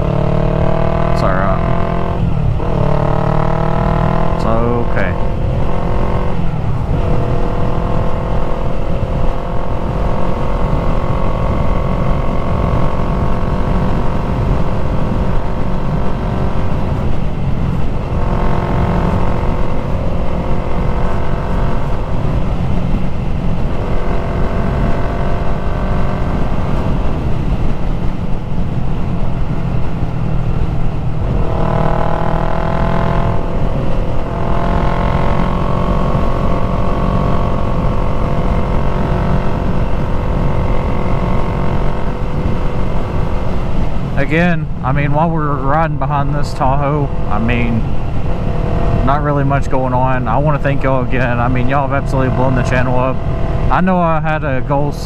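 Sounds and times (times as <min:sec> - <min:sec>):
motorcycle engine revving: 0:00.0 - 0:55.0
wind rumble on microphone: 0:00.0 - 0:55.0.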